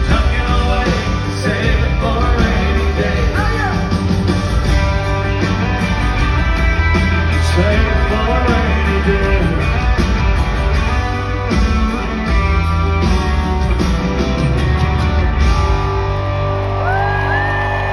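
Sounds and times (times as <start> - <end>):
electric guitar: 0.0 - 17.9
heavy bass: 0.0 - 17.9.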